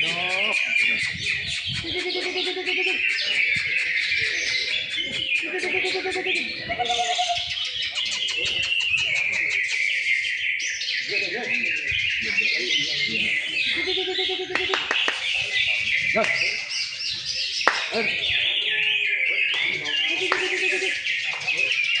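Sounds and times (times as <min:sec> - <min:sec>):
low pulsing bird call: 0:00.0 - 0:22.0
songbirds chorus: 0:00.0 - 0:22.0.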